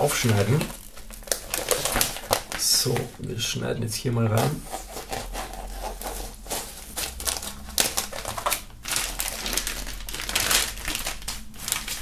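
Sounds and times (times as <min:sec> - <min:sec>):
plastic foil crackling: 0:00.0 - 0:12.0.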